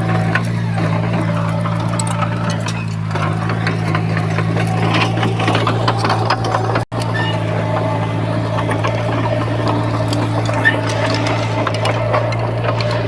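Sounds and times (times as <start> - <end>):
diesel engine running: 0.0 - 13.0
rattling and clanking: 0.0 - 13.0.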